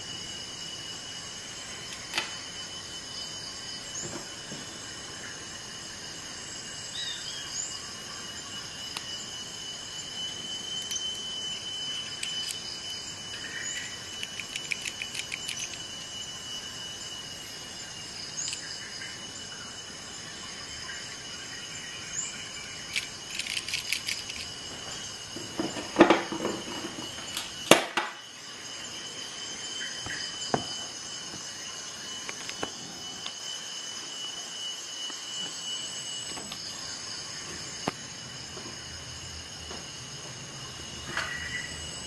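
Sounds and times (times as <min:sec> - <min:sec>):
steady high whine: 0:00.0 - 0:42.0.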